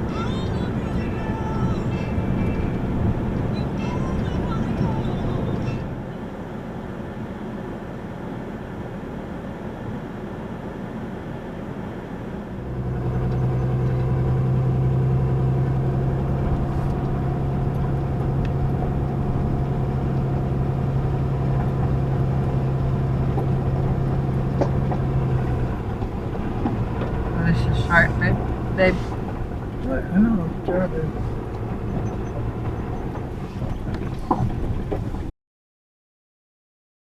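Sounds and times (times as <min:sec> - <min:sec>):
truck engine running: 0:00.0 - 0:35.3.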